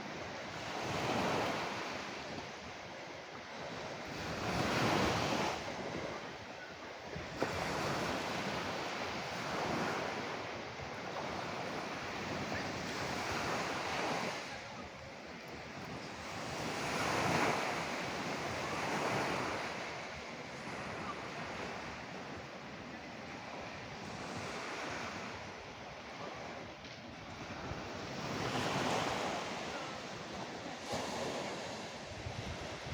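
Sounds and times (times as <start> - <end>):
ocean waves breaking on shore: 0.0 - 32.9.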